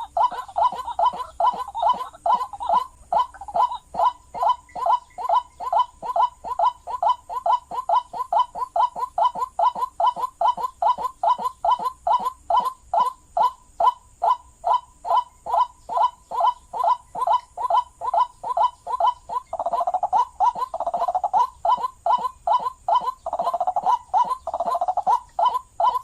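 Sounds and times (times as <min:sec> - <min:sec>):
bird calling hoarse notes: 0:00.0 - 0:26.0.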